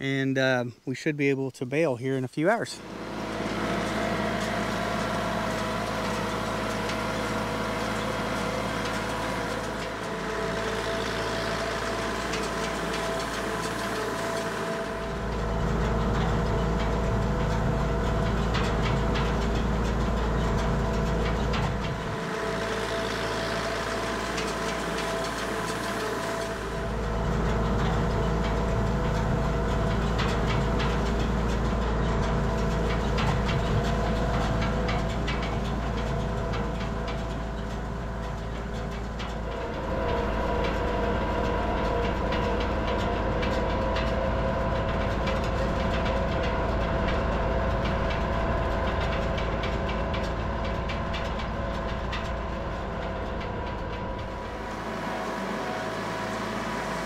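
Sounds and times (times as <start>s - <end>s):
tractor engine running: 2.0s - 57.0s.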